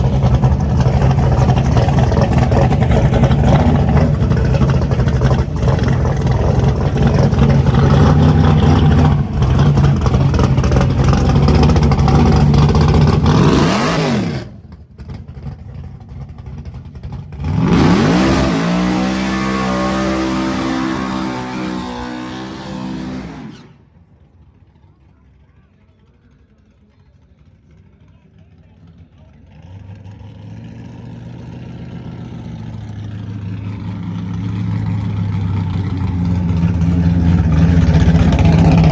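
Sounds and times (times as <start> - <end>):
car engine running hard: 0.0 - 38.9.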